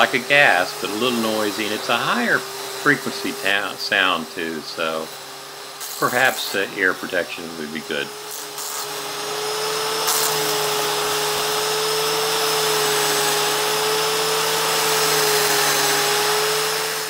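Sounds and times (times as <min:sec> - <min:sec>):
blade hissing: 0:00.0 - 0:17.0
electric edger motor whine: 0:00.0 - 0:17.0.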